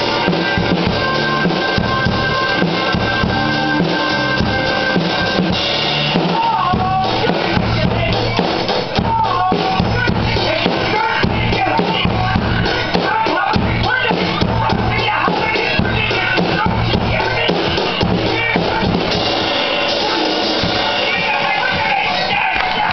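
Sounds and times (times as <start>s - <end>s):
drum kit rock beat: 0.0s - 22.9s.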